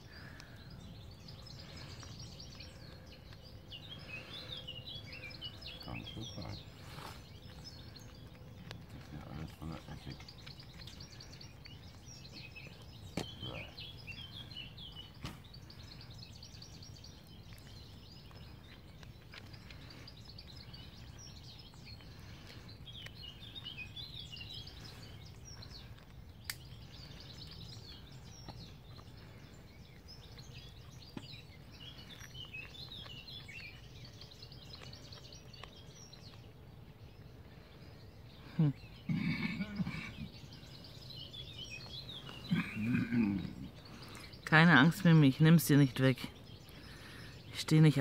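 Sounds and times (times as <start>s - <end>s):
birds chirping and trilling: 0.0s - 48.0s.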